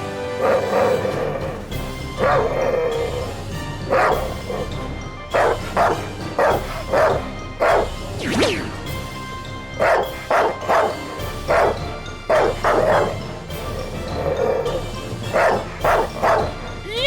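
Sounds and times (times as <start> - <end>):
background music: 0.0 - 17.0
dog barking and yipping: 0.4 - 17.0.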